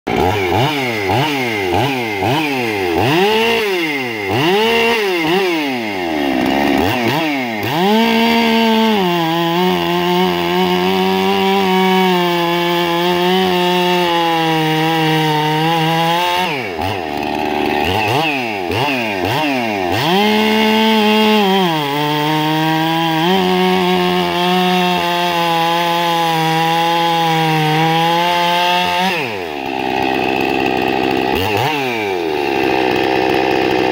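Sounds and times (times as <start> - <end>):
chainsaw cutting log: 0.1 - 33.9
chainsaw revving: 0.1 - 33.9.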